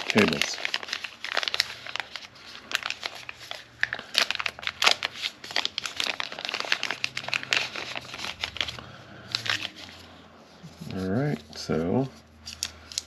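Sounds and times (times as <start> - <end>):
packaging crinkling: 0.0 - 11.4, 12.4 - 13.0.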